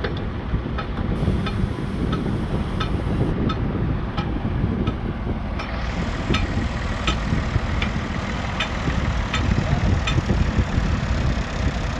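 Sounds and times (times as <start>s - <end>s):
tractor engine rumbling: 0.0s - 11.9s.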